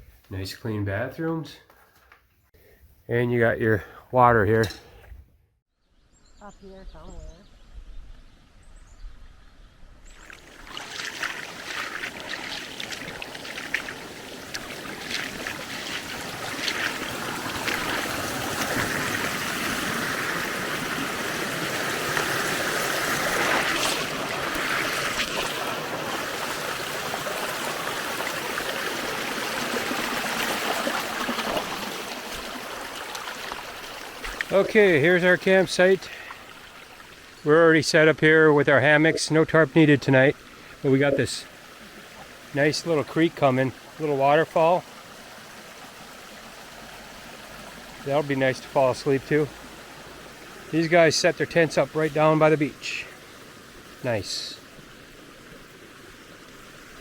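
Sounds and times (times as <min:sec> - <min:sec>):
creek splashing over waterfall: 0:10.1 - 0:57.0.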